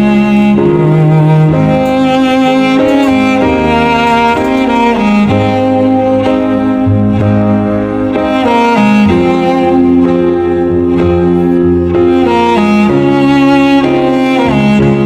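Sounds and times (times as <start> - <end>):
cello and violin music: 0.0 - 15.0.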